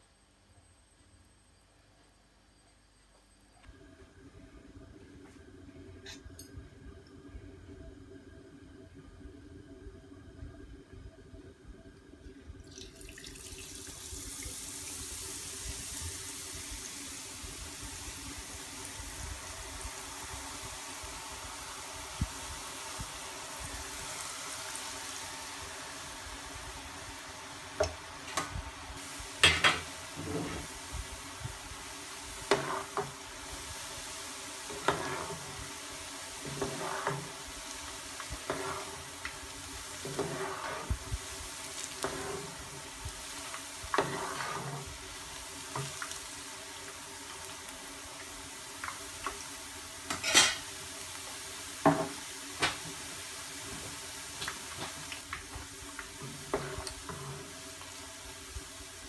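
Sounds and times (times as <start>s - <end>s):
batter frying in hot oil: 4.9s - 59.0s.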